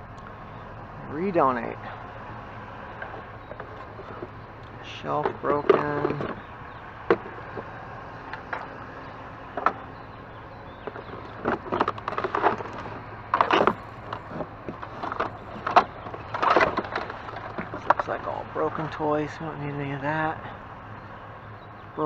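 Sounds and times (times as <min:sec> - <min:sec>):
junk knocking and clattering: 0:00.0 - 0:22.0.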